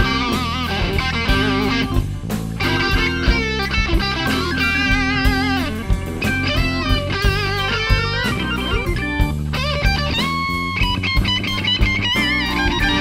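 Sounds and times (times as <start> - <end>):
drum hits: 0.0 - 13.0
electric guitar lead: 0.0 - 13.0
low bass notes: 0.0 - 13.0.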